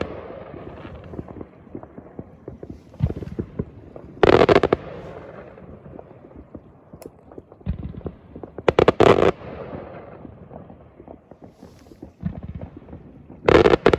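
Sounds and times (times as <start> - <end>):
distant firework bangs and crackles: 0.0 - 13.9
loud close firework volleys: 0.0 - 13.9.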